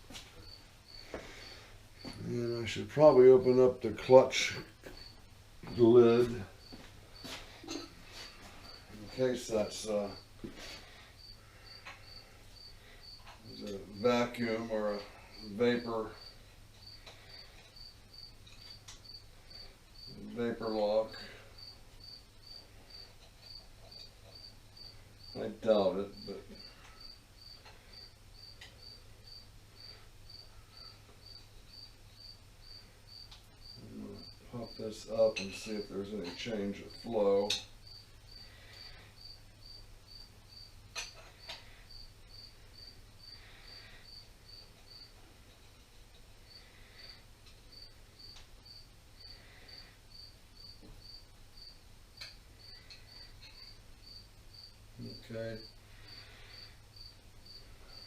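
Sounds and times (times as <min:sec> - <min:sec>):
faint electrical hum: 0:00.0 - 0:58.0
cricket chirping: 0:00.4 - 0:02.6, 0:04.9 - 0:58.0.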